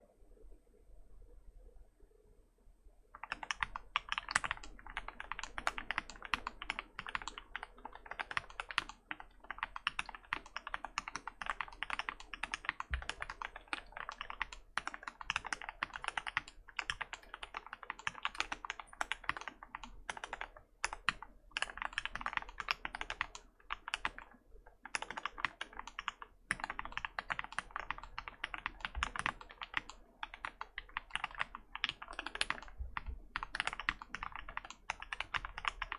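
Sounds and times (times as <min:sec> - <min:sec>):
mechanical keyboard typing: 0:03.2 - 0:35.9.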